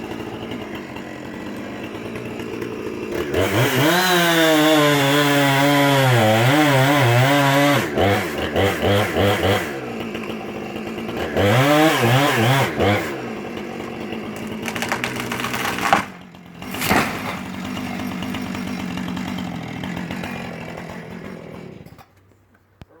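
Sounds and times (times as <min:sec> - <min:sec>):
chainsaw running and revving: 0:00.0 - 0:22.2.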